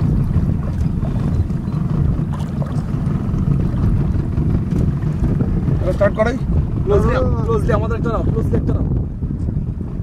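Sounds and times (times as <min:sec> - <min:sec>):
motorboat running: 0:00.0 - 0:10.0
wind buffeting microphone: 0:00.0 - 0:10.0.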